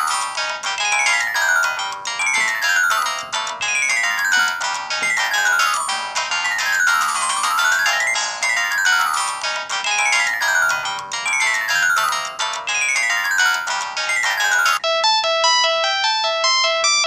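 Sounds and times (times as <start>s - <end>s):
tinny mobile phone ringtone: 0.0s - 17.0s.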